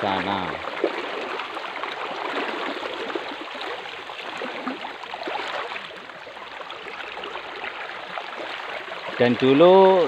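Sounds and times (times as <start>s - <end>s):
water flowing in metal channel: 0.0s - 10.0s.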